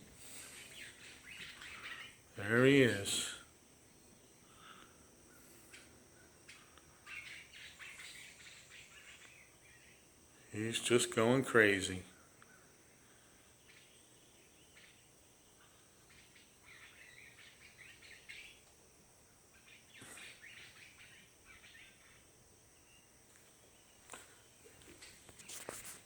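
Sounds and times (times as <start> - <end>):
faint bird chirps: 0.0 - 26.0
steady high hiss: 0.0 - 26.0.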